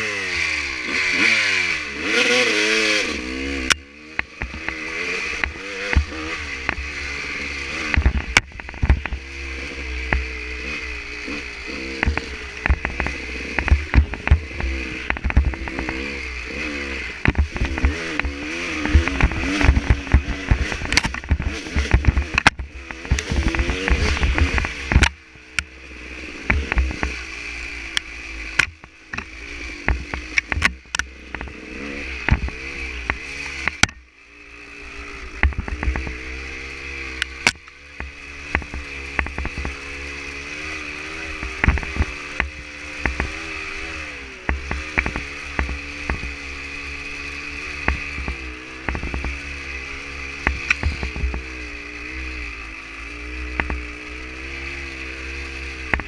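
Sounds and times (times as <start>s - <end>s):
dirt bike engine revving: 0.0s - 56.0s
sharp knocks and rattles: 3.6s - 25.8s, 26.4s - 27.3s, 27.9s - 34.0s, 35.3s - 51.8s, 53.4s - 56.0s.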